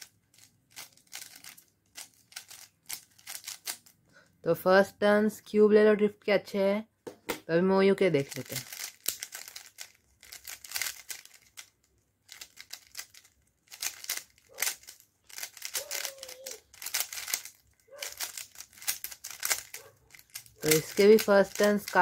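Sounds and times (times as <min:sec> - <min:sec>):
puzzle cube clicking: 0:00.0 - 0:03.9, 0:08.2 - 0:22.0.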